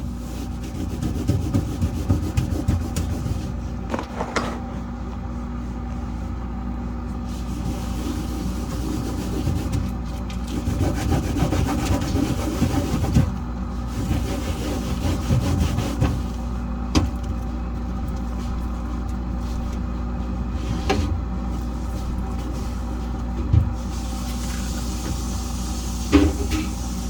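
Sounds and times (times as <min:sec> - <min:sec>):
cloth scrubbing fridge surface: 0:00.0 - 0:06.4, 0:07.1 - 0:16.6, 0:18.0 - 0:27.0
steady low hum: 0:00.0 - 0:27.0.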